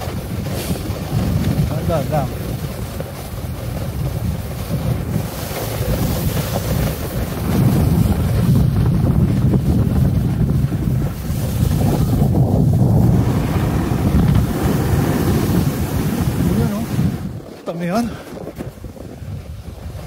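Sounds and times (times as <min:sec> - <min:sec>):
snowboard scraping on snow: 0:00.0 - 0:20.0
wind buffeting microphone: 0:00.0 - 0:20.0.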